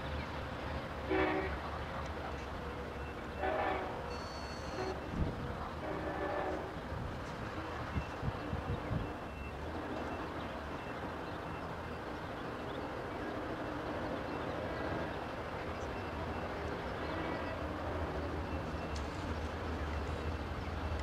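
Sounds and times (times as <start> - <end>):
outdoor background noise: 0.0 - 21.0
train approaching with low rumble: 0.0 - 21.0.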